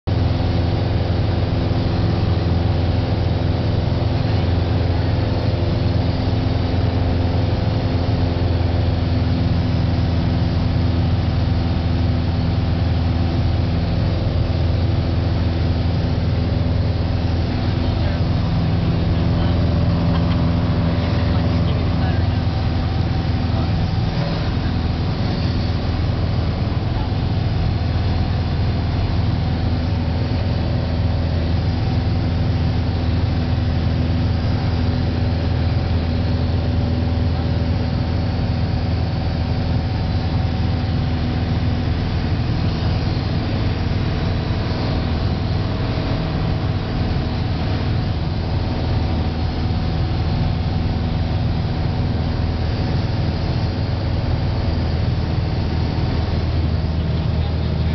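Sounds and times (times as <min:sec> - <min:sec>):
airplane engine droning: 0:00.0 - 0:57.9.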